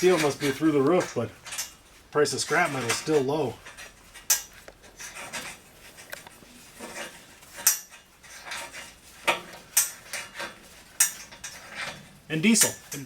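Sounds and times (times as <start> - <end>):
metallic clinks and knocks: 0.0 - 2.0, 2.6 - 13.0.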